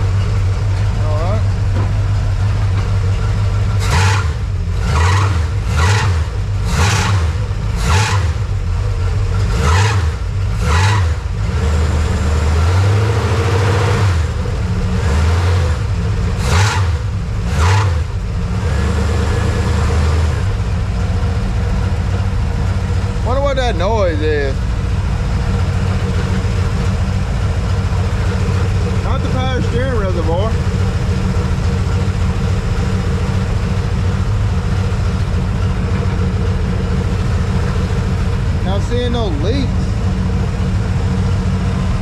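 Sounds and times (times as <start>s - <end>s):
pickup truck engine running: 0.0s - 42.0s.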